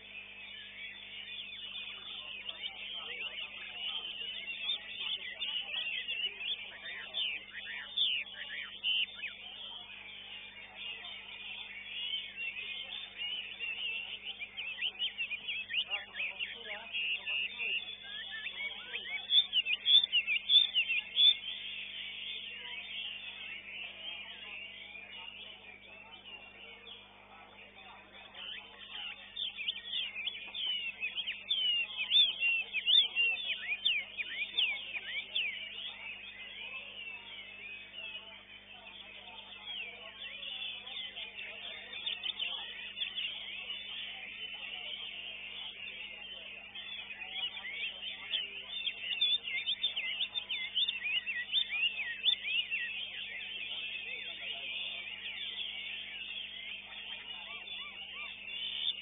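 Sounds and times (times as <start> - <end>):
songbird whistling song: 0.0 - 59.0.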